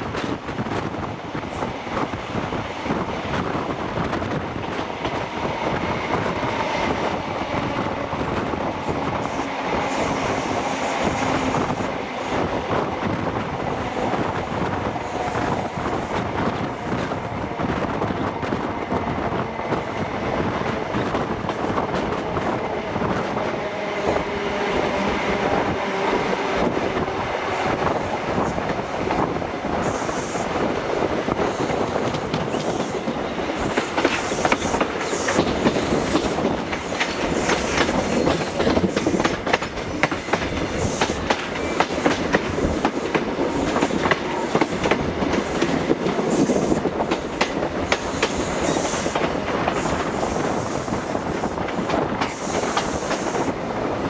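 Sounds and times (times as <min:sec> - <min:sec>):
train wheels clattering: 0:00.0 - 0:53.7.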